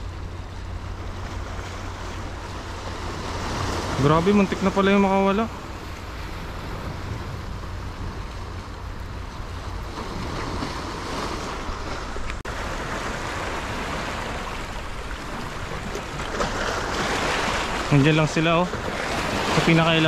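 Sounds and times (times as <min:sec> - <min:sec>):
surf splashing over rocks: 0:00.0 - 0:20.0
wind rumbling on microphone: 0:00.0 - 0:20.0.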